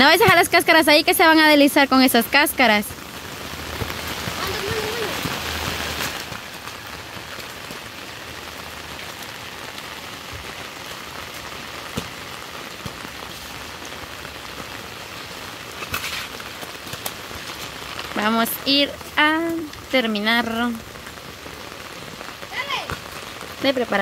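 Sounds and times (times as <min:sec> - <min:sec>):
raindrop taps: 0:00.0 - 0:24.0
steady rain: 0:00.0 - 0:24.0.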